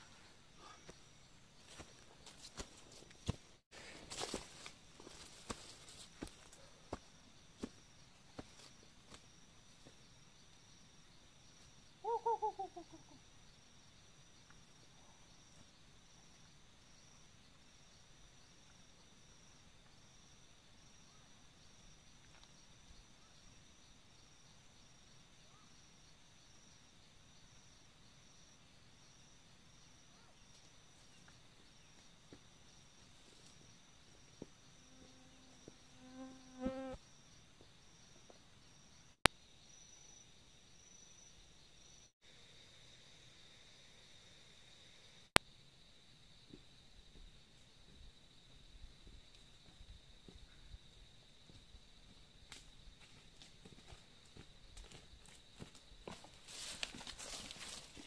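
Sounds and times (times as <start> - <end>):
insect chorus chirping: 4.1 - 58.0.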